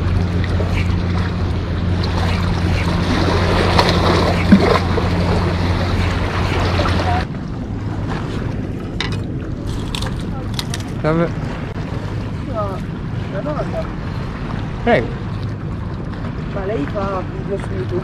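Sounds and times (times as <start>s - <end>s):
boat motor humming: 0.0s - 18.0s
water lapping: 0.0s - 18.0s
wind: 0.0s - 18.0s.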